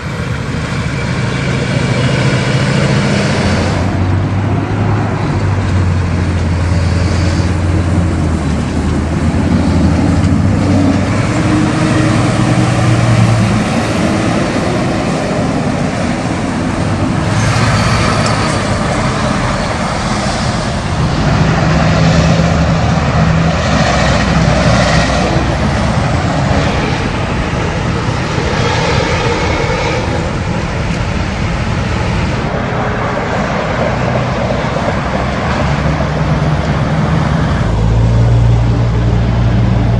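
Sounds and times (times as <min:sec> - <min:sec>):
road noise: 0:00.0 - 0:39.9
truck engines droning: 0:00.0 - 0:39.9.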